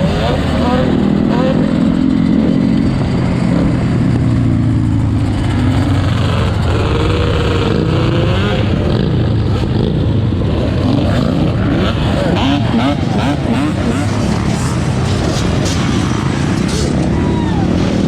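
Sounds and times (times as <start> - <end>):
atv engines revving: 0.0 - 18.0.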